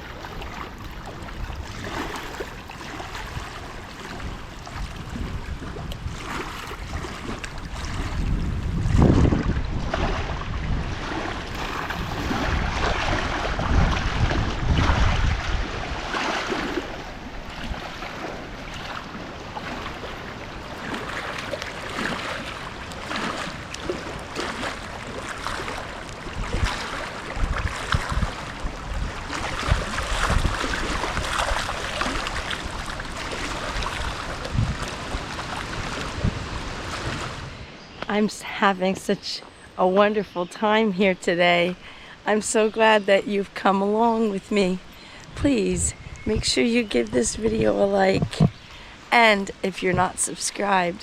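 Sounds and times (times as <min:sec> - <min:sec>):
wind buffeting microphone: 0:00.0 - 0:39.2, 0:40.9 - 0:51.0
wind gusting through forest: 0:03.0 - 0:40.4, 0:44.5 - 0:51.0.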